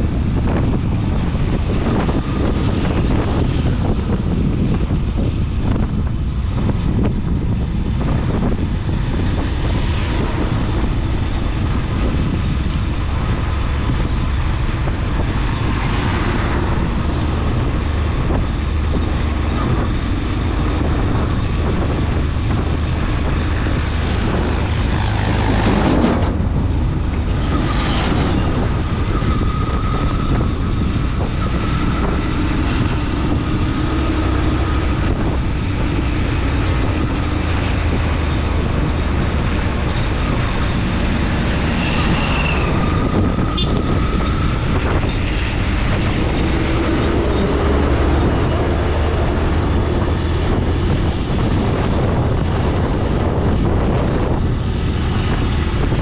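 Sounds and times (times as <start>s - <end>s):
vehicle rumbling along road: 0.0s - 56.0s
wind buffeting microphone: 0.0s - 56.0s.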